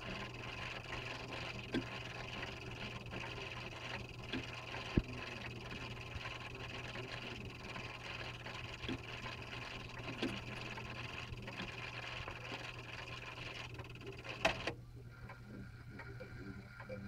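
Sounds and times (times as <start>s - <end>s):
clock gear train whirring: 0.0s - 14.7s
faint clock ticking: 0.0s - 17.0s
low steady hum: 0.0s - 17.0s.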